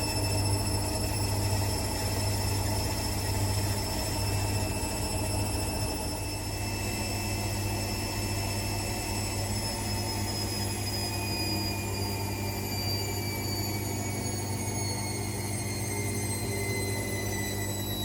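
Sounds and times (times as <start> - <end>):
washing machine spin slowing: 0.0 - 18.0.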